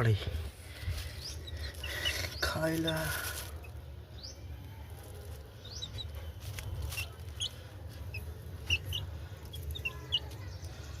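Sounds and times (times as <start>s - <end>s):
baby chicks peeping: 0.8s - 11.0s.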